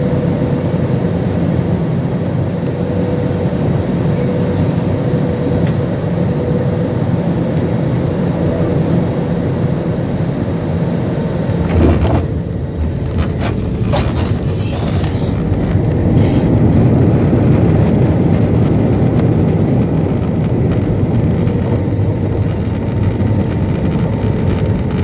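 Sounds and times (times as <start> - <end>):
constant hum: 0.0 - 25.0
engine and airflow rush: 0.0 - 25.0.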